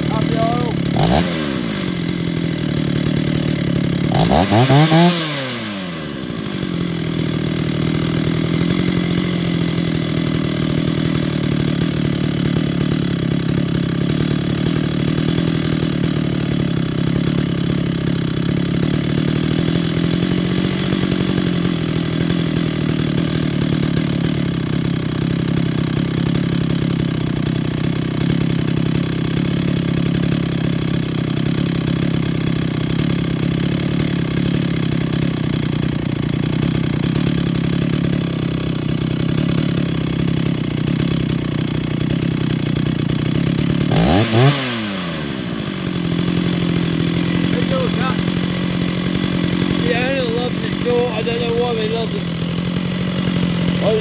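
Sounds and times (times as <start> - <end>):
chainsaw idling: 0.0 - 54.0
chainsaw throttle blip: 0.0 - 54.0.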